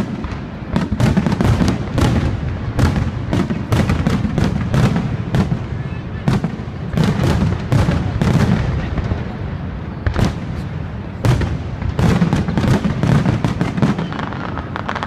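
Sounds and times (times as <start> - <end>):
fireworks bursting bangs: 0.0 - 15.0.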